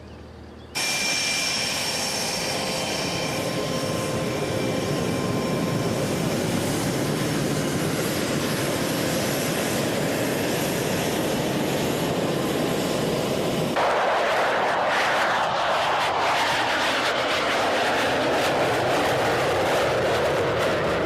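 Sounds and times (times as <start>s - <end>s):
jet engine running: 0.8s - 21.0s.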